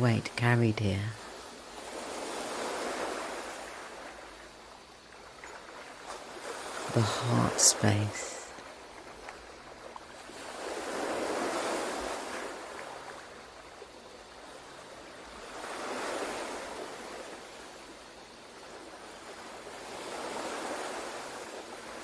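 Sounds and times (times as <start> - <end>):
ocean surf washing in: 0.8 - 5.0, 6.2 - 8.7, 10.1 - 22.0.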